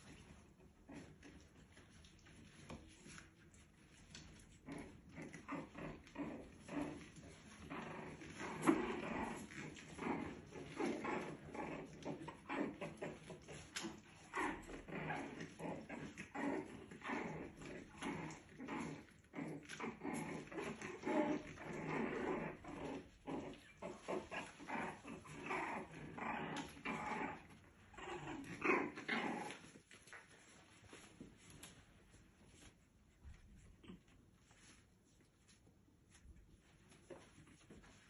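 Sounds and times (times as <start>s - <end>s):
puppies growling: 0.0s - 38.0s.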